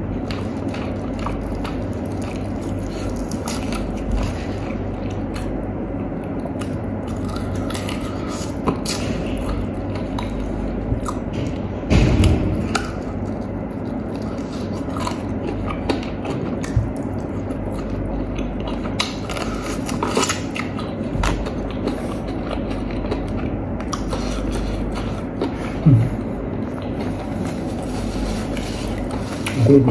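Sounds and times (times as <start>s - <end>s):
chewing crispy fried chicken: 0.0s - 29.9s
low background hum: 0.0s - 29.9s.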